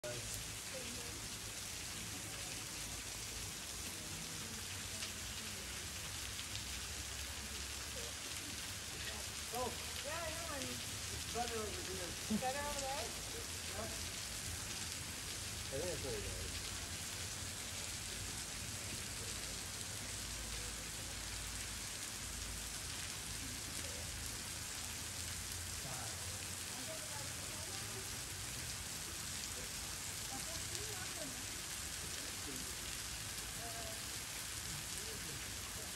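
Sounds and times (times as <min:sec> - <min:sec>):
waterfall spattering onto rocks: 0:00.0 - 0:35.9.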